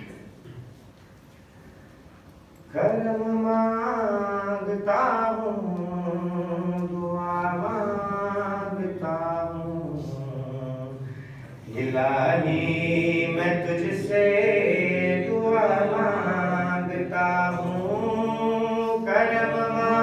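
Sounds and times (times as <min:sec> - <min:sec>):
man chanting a lament: 0:02.8 - 0:20.0.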